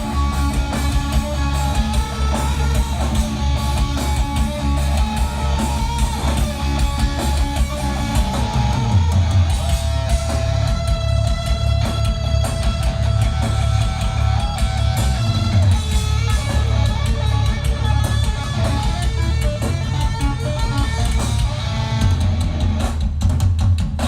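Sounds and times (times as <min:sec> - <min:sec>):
heavy rock band playing: 0:00.0 - 0:24.0.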